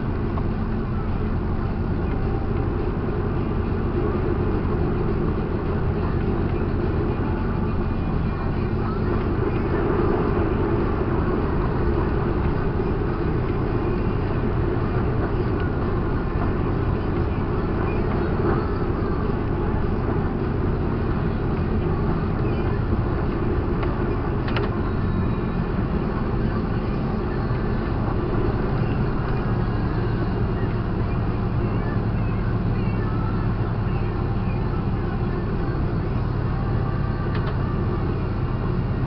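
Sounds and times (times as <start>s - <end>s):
truck engine and road drone: 0.0s - 39.0s.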